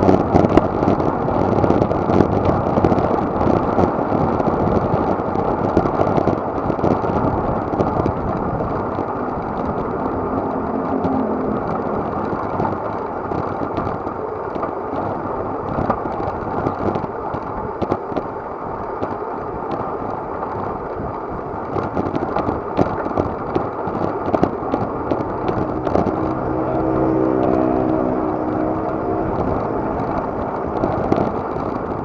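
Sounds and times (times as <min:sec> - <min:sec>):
bicycle road noise: 0:00.0 - 0:32.0
vehicle engine hum: 0:00.0 - 0:32.0
wind rush on microphone: 0:00.0 - 0:32.0.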